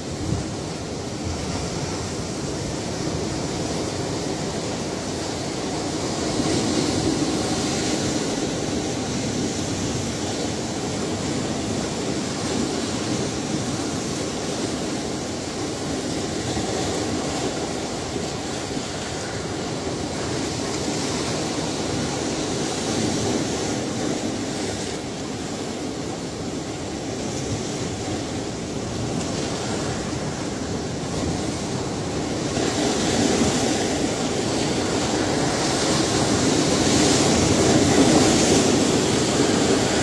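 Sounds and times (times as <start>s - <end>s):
ocean waves breaking: 0.0s - 40.0s.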